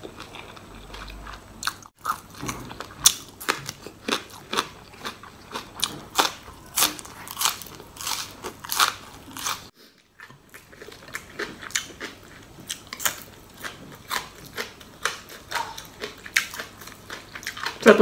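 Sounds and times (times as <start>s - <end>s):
crunchy chewing and biting: 0.0s - 18.0s.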